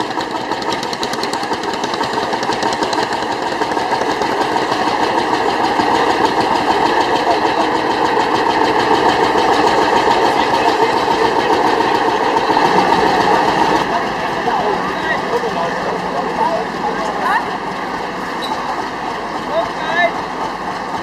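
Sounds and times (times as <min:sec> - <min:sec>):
vintage engine running: 0:00.0 - 0:21.0.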